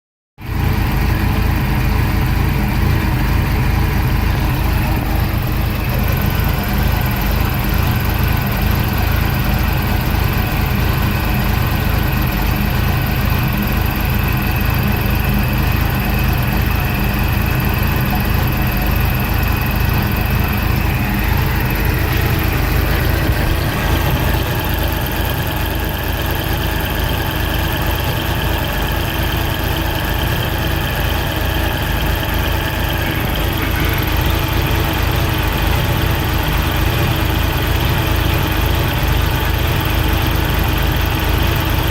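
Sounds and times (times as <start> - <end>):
engine idling: 0.4 - 41.9.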